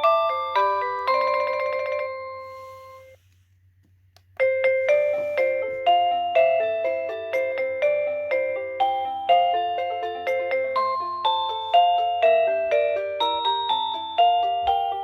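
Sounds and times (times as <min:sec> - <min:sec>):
electronic doorbell chime tunes: 0:00.0 - 0:03.2, 0:04.4 - 0:15.0.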